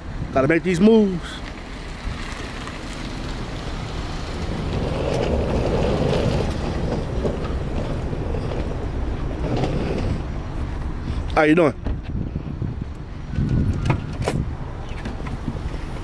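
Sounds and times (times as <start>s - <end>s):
rumbling vehicle: 0.0s - 16.0s.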